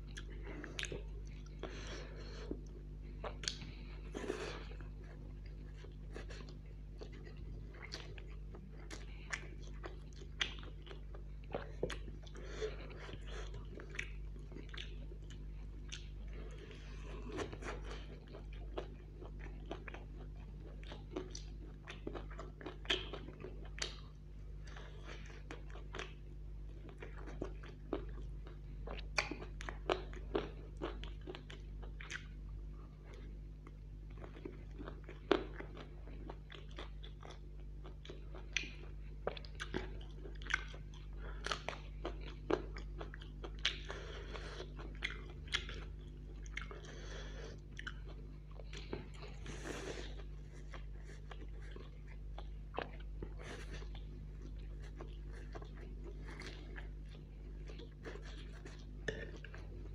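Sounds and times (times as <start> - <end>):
person chewing and crunching: 0.0 - 59.9
steady low hum: 0.0 - 59.9.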